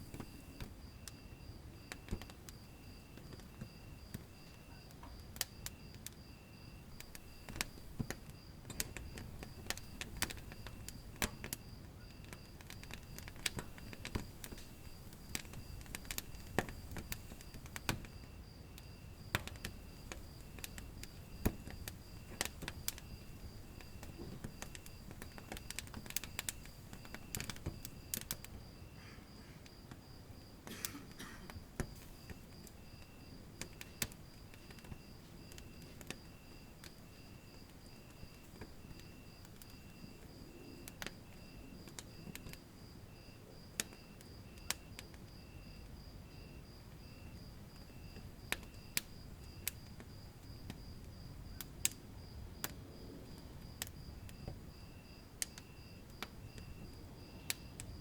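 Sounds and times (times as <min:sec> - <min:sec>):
sharp pops of fire: 0:00.0 - 0:58.0
wood fire crackling: 0:00.0 - 0:58.0.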